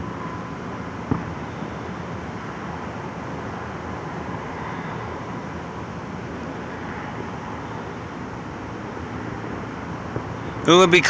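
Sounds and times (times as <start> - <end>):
distant city traffic hum: 0.0 - 11.0.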